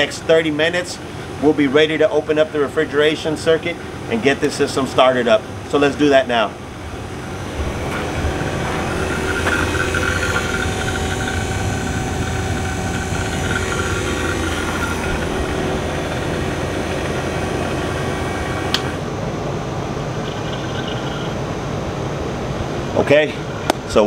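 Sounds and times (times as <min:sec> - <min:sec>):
vacuum pump running: 0:00.0 - 0:24.0.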